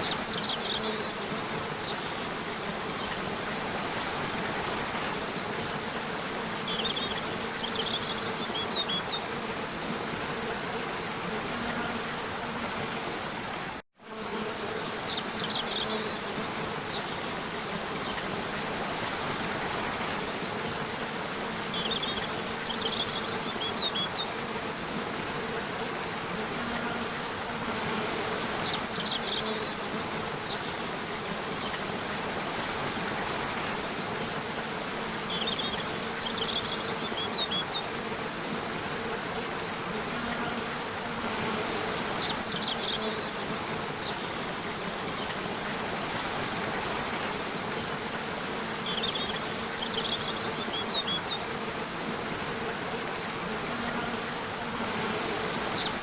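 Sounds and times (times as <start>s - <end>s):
constant hiss: 0.0s - 56.0s
insects buzzing: 0.0s - 56.0s.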